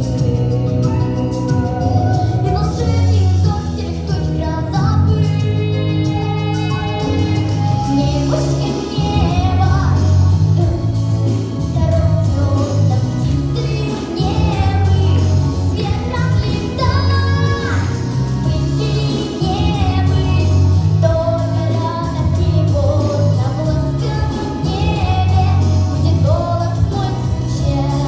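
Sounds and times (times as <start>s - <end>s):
backing track with bass line: 0.0s - 28.0s
girl singing pop song: 0.0s - 28.0s.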